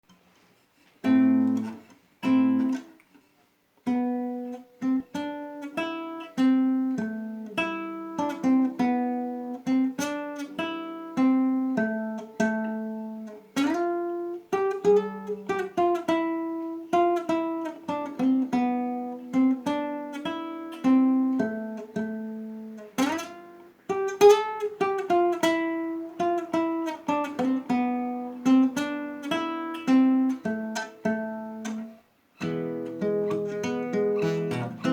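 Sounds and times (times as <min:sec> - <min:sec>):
acoustic guitar folk tune: 0:00.0 - 0:34.9.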